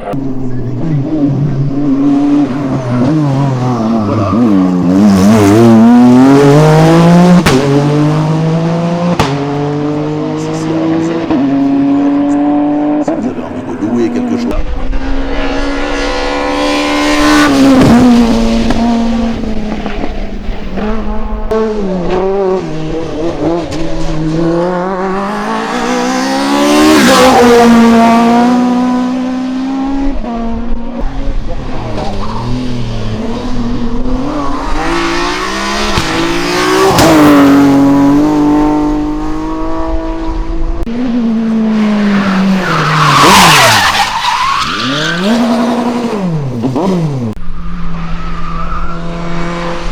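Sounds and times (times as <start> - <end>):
race cars passing at full throttle: 0.0 - 49.9.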